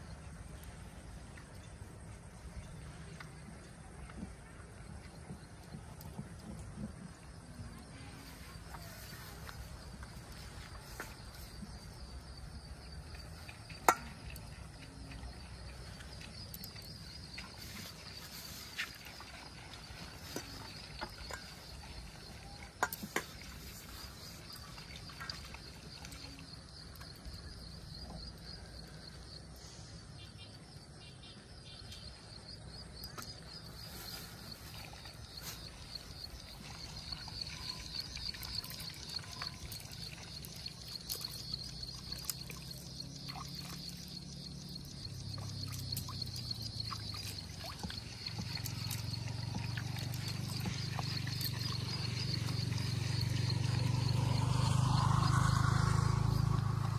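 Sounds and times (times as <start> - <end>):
insects chirring: 4.9 - 56.9.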